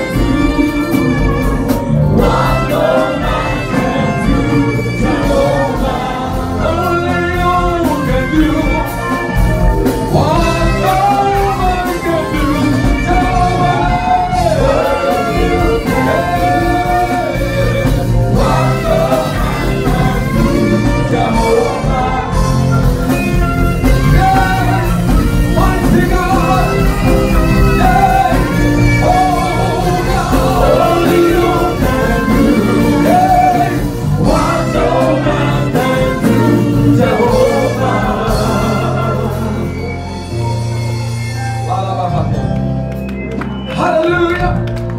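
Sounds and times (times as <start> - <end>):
person singing: 0.0 - 40.0
saxophones playing a melody: 0.0 - 44.7
band with heavy bass line: 0.0 - 44.9.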